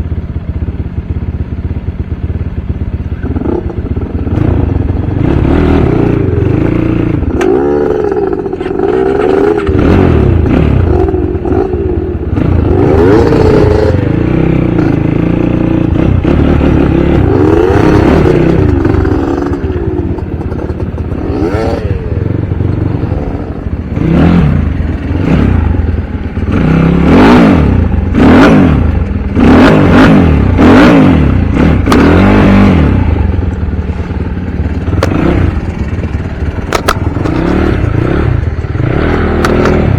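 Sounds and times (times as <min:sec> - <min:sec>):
dirt bike engine revving: 0:03.2 - 0:39.9.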